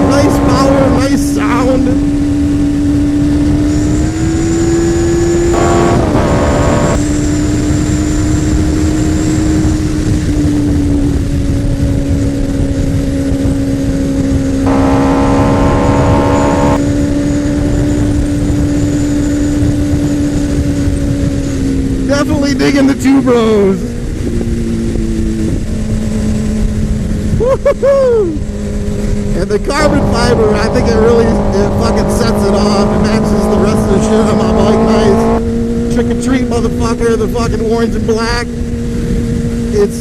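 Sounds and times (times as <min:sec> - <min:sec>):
motorcycle engine cruising: 0:00.0 - 0:40.0
wind rushing over microphone: 0:00.0 - 0:40.0.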